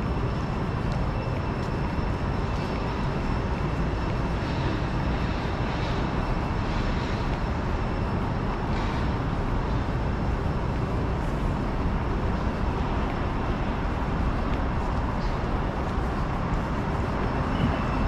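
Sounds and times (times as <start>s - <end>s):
distant traffic and machinery rumble: 0.0s - 18.0s.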